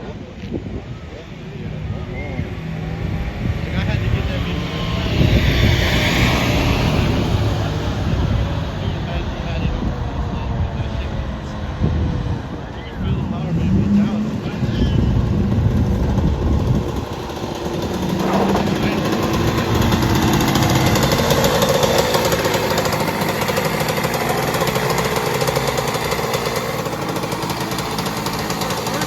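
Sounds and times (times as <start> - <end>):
two-stroke engine running: 1.1 - 10.0, 13.0 - 29.0.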